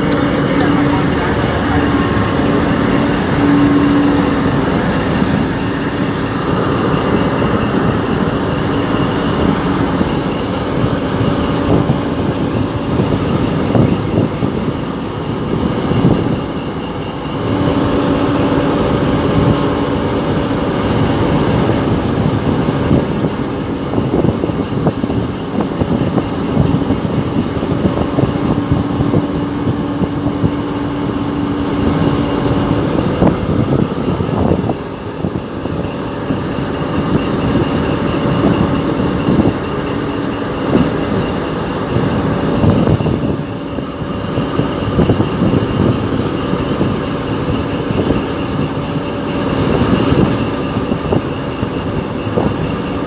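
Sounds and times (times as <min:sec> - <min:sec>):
boat engine humming: 0:00.0 - 0:53.0
water churning along hull: 0:00.0 - 0:53.0.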